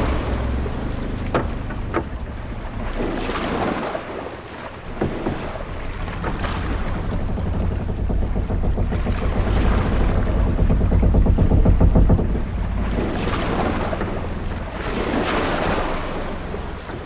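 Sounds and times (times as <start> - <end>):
sharp knocks from ship: 0.0 - 4.2, 4.8 - 17.0
low rumble of wind and sea: 0.0 - 17.0
water washing against ship hull: 0.0 - 17.0.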